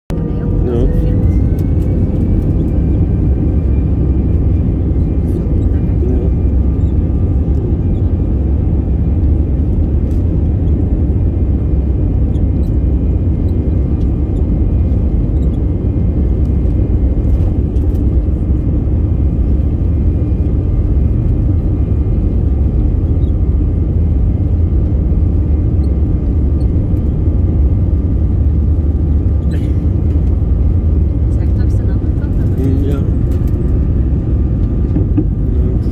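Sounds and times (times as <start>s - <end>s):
jet engine rumble in cabin: 0.1s - 35.9s.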